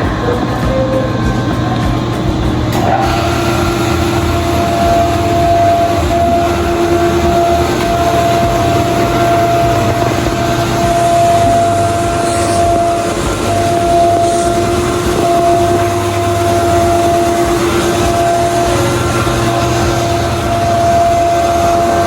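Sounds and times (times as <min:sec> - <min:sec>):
even rushing noise: 0:00.0 - 0:22.0
mechanical drone: 0:00.0 - 0:22.0
two-note hum: 0:00.0 - 0:22.0.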